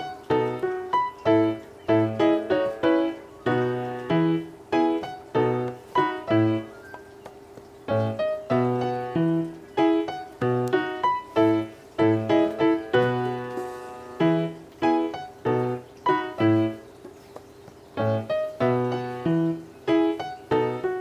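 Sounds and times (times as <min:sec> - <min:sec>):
bouncy piano tune: 0:00.0 - 0:21.0.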